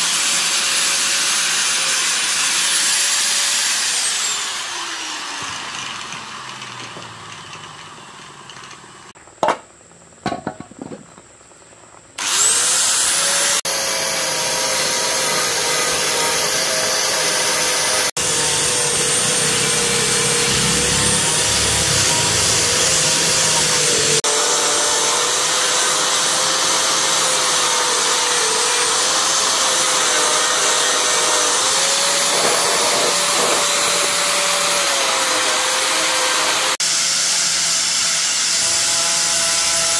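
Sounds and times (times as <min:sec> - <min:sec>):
electric power tool whining: 0:00.0 - 0:09.2, 0:12.2 - 0:39.9.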